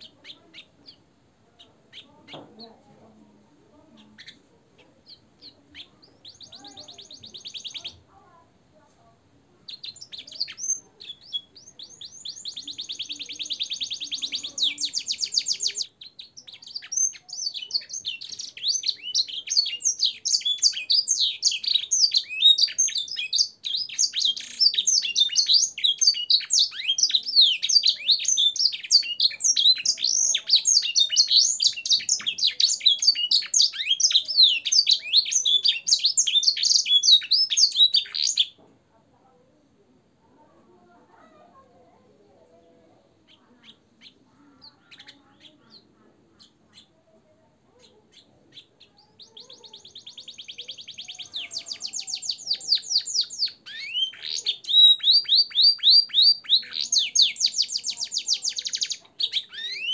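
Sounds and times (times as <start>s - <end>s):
canary singing: 0.0s - 8.5s, 9.6s - 38.6s, 41.1s - 59.9s.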